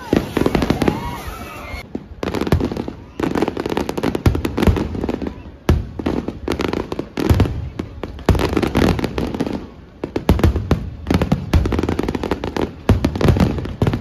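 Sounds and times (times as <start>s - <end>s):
fireworks booming: 0.0s - 14.0s
fireworks crackling and popping: 0.0s - 14.0s.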